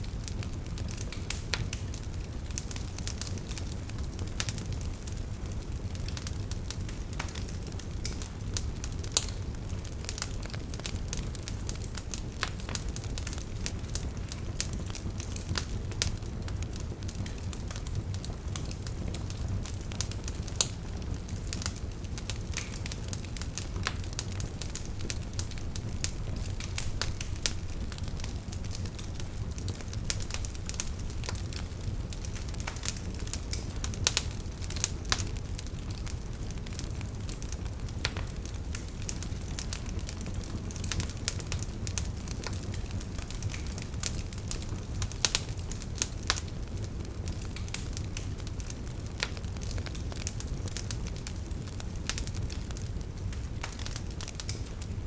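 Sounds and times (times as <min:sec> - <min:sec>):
campfire crackling and popping: 0:00.0 - 0:55.0
low rush of flame: 0:00.0 - 0:55.0.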